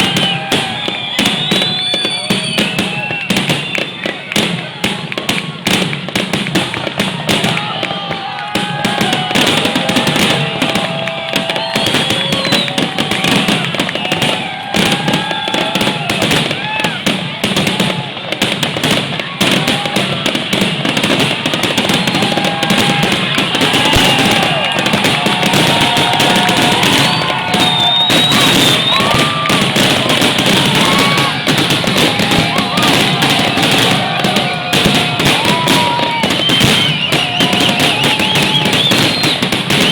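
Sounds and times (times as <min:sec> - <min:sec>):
firework crackling: 0:00.0 - 0:39.9.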